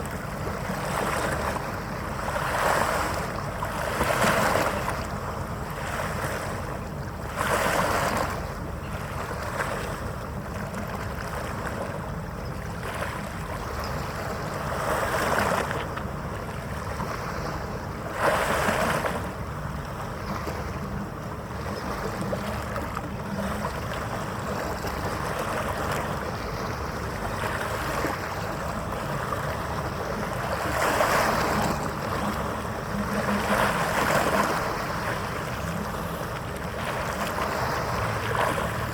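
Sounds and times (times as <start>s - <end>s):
waves washing in: 0.0s - 38.9s
wind: 0.0s - 38.9s.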